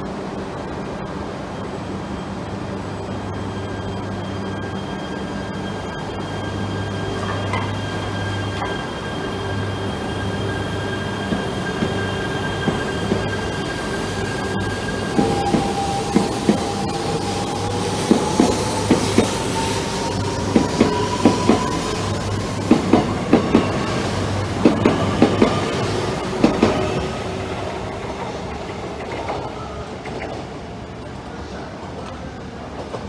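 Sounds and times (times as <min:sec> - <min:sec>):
train rumble: 0:00.0 - 0:33.0.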